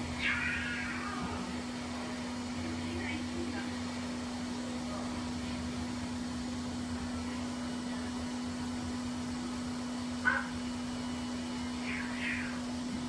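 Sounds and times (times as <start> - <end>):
pet dryer blower humming: 0.0 - 13.0.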